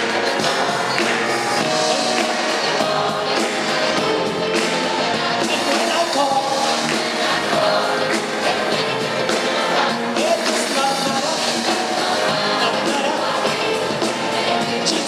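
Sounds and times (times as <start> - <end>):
gospel singing with band: 0.0 - 15.0.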